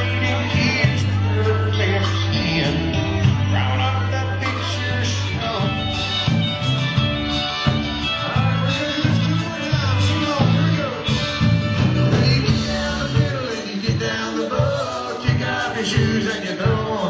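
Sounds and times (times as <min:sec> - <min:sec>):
electric guitar bending notes: 0:00.0 - 0:14.2
live country-rock band: 0:00.0 - 0:17.0.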